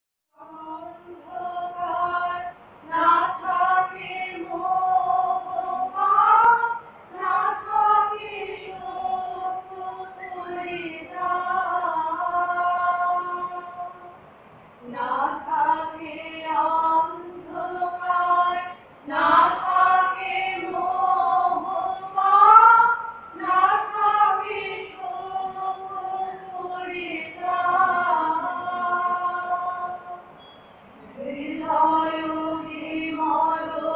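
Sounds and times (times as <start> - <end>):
women singing a slow melody: 0.3 - 33.9.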